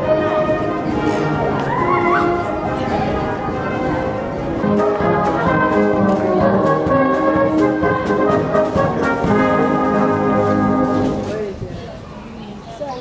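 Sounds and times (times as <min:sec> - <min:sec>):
brass band playing: 0:00.0 - 0:11.5.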